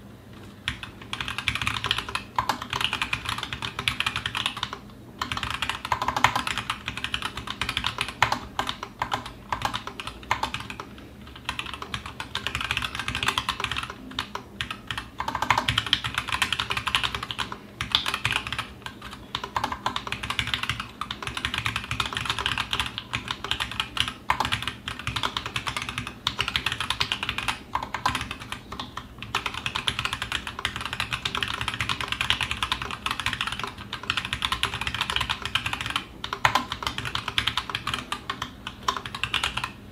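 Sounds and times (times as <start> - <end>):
fast typing on mechanical keyboard: 0.6 - 39.9.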